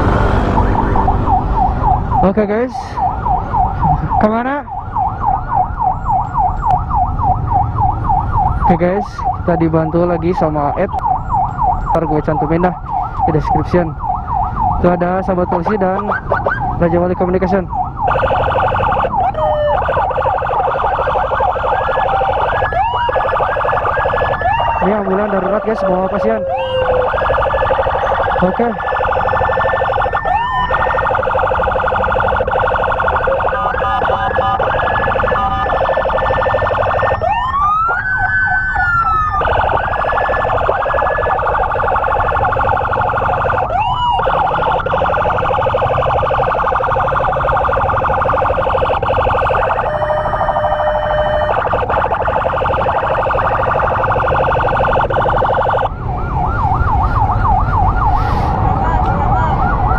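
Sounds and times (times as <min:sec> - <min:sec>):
electronic emergency sirens: 0:00.0 - 0:59.9
traffic: 0:00.0 - 0:59.9.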